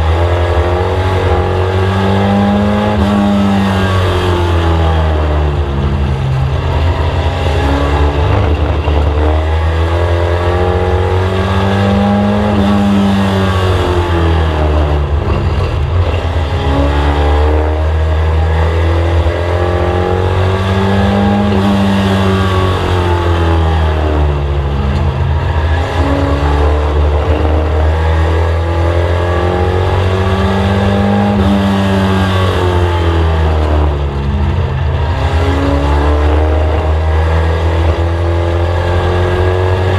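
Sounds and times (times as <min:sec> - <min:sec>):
constant low drone: 0:00.0 - 0:39.9
race car engine revving: 0:00.0 - 0:39.9.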